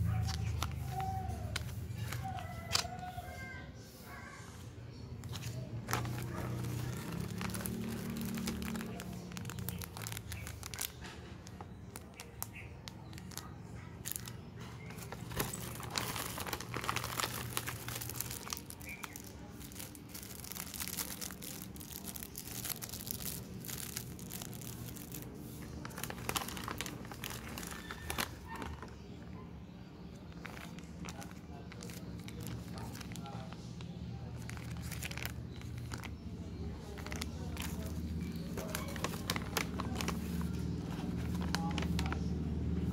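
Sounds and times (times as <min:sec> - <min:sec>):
plastic packaging crinkling and tearing: 0:00.0 - 0:03.1, 0:05.2 - 0:42.9.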